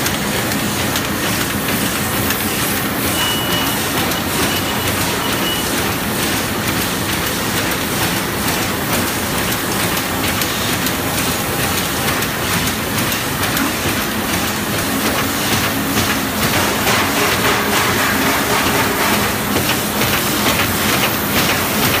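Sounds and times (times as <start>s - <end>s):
laminating machine running: 0.0s - 22.0s.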